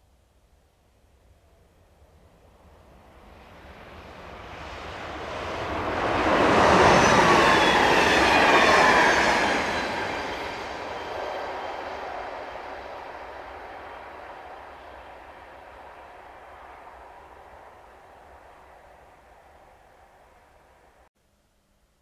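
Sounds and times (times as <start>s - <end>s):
electric train passing: 1.2s - 21.1s.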